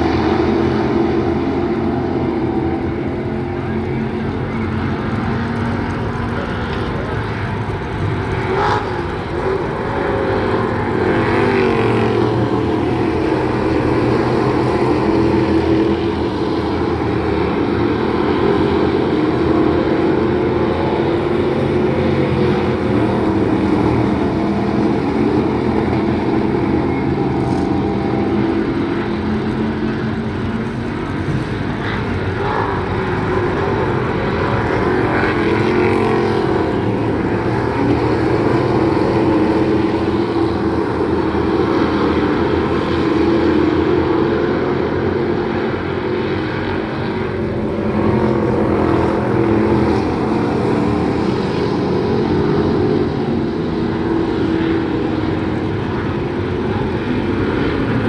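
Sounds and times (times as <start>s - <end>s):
racing car engines: 0.0s - 58.0s.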